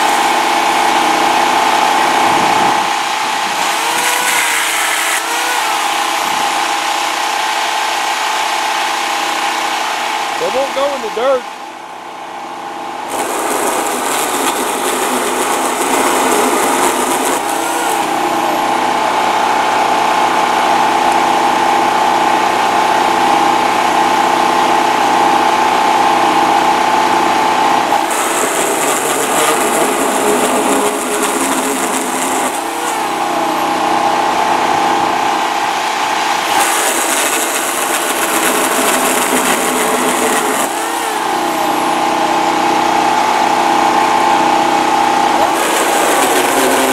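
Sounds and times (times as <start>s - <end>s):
electric chainsaw motor whine: 0.0s - 46.9s.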